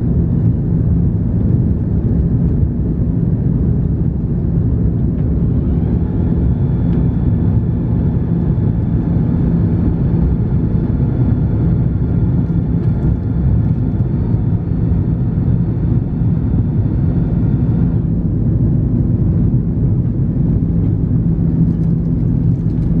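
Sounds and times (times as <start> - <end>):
airplane cabin engine rumble: 0.0 - 23.0
faint high engine whine: 0.0 - 23.0.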